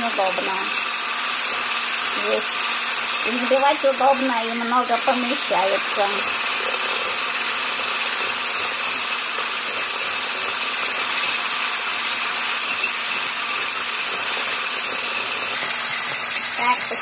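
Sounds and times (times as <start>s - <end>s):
hand blender whisking egg whites: 0.0s - 17.0s.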